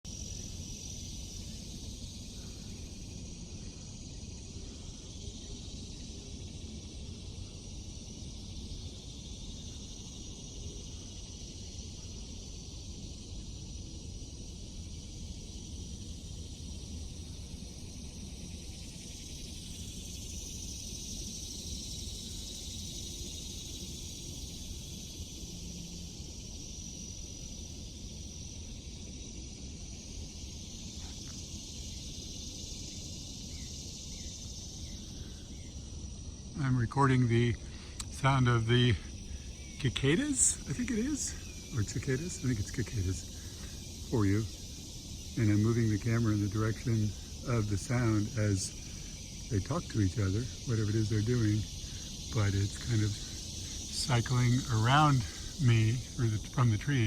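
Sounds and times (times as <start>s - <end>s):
cicadas buzzing: 0.0s - 57.0s
low freeway traffic rumble: 0.0s - 57.0s.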